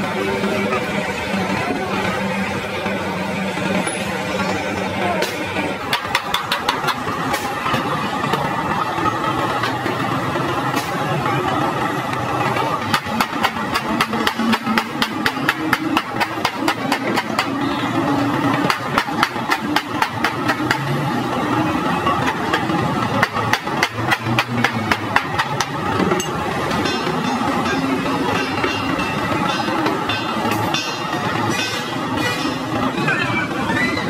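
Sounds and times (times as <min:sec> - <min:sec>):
engine running: 0:00.0 - 0:33.8.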